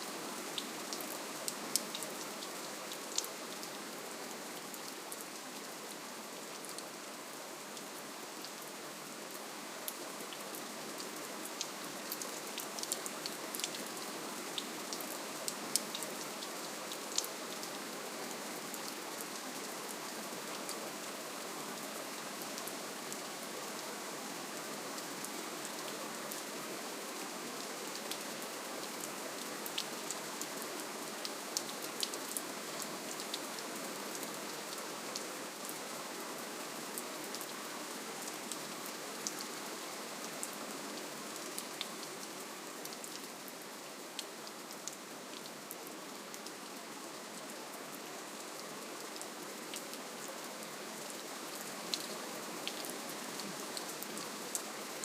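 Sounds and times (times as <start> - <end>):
soft steady rainfall: 0.0 - 55.0.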